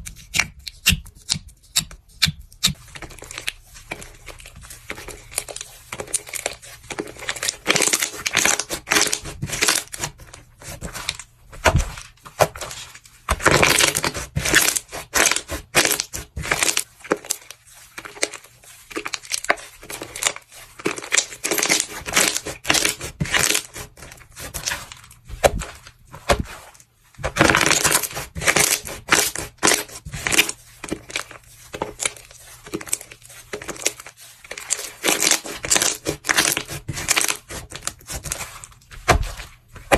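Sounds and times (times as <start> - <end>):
crunchy material being crushed: 4.1 - 39.9.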